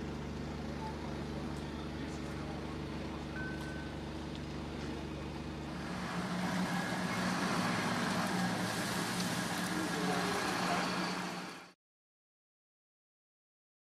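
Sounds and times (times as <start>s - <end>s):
diesel engine droning: 0.0s - 11.8s.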